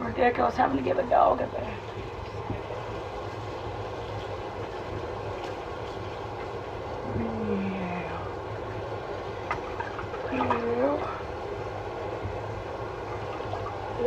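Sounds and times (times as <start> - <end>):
water running from faucet: 0.0 - 14.0.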